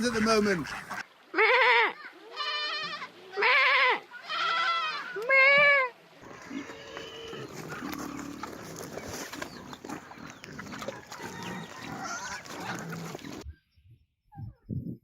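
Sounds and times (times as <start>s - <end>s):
farm animals calling: 0.0s - 13.5s.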